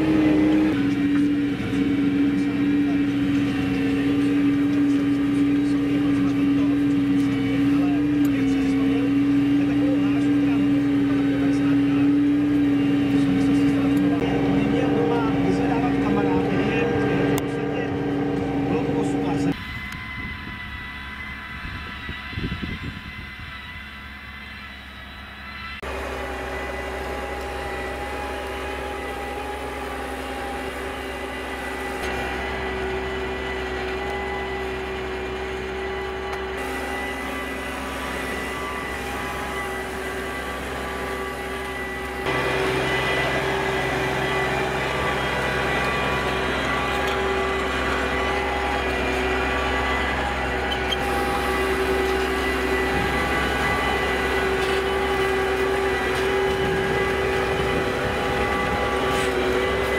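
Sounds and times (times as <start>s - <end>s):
diesel tractor engine under load: 0.0s - 59.9s
steady whine: 0.0s - 59.9s.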